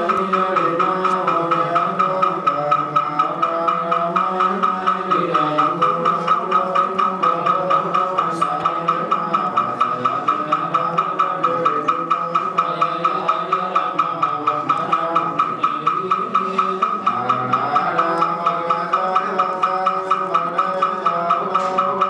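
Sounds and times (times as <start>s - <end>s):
person chanting: 0.0s - 22.0s
wooden fish struck in beat: 0.0s - 22.0s.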